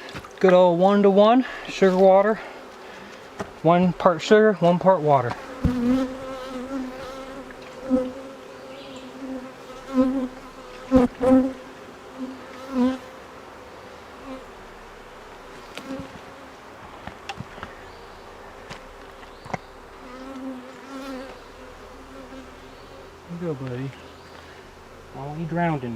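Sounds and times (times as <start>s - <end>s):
honeybees buzzing: 0.0s - 25.9s.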